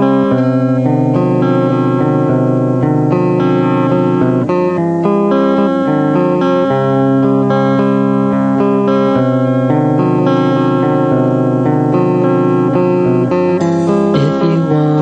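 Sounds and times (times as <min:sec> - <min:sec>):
guitar-led indie pop music: 0:00.0 - 0:15.0.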